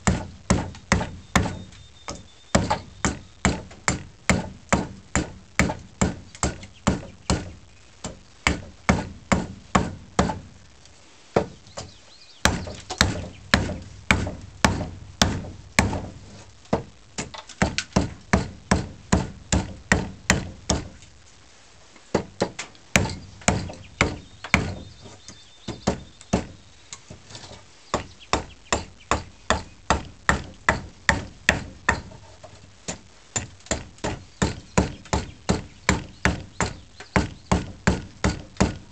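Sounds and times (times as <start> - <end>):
axe chopping wood: 0.0 - 10.5, 12.4 - 21.0, 22.1 - 24.9, 28.0 - 32.1, 32.9 - 38.9.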